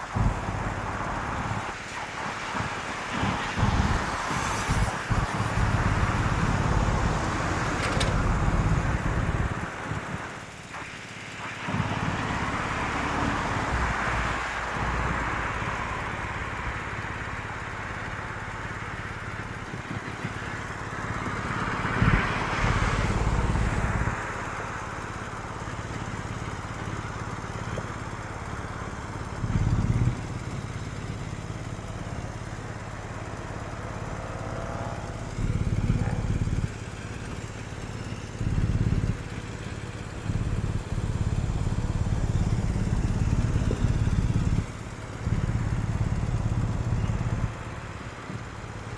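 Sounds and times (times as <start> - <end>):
low engine rumble: 0.0 - 48.9
vehicles driving past: 0.0 - 48.9.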